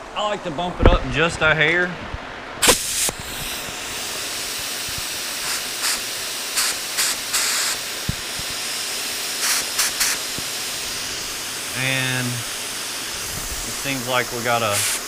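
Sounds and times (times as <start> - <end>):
compressed air hissing through spray gun: 2.6 - 15.0.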